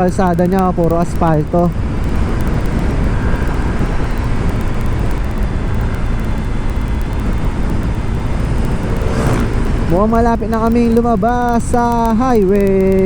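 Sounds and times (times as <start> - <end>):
motorcycle engine: 0.0 - 13.0
wind noise: 0.0 - 13.0.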